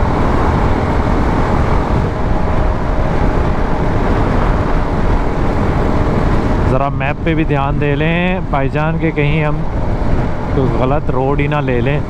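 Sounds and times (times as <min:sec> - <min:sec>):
motorcycle engine cruising: 0:00.0 - 0:12.0
road noise: 0:00.0 - 0:12.0
wind rushing on microphone: 0:00.0 - 0:12.0.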